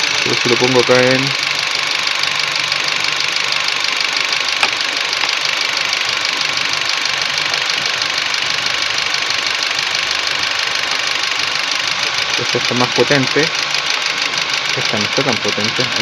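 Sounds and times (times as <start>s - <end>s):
misfiring car engine idling: 0.0s - 16.0s.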